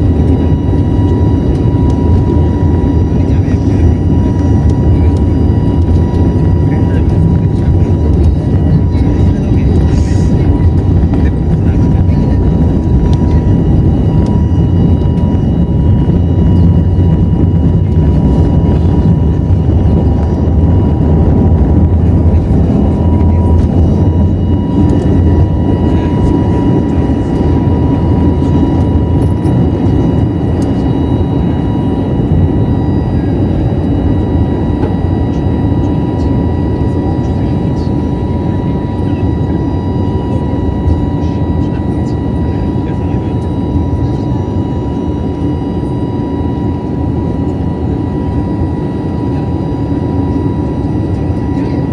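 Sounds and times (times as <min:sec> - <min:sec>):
engine whine: 0:00.0 - 0:51.9
jet engines rumbling from cabin: 0:00.0 - 0:51.9.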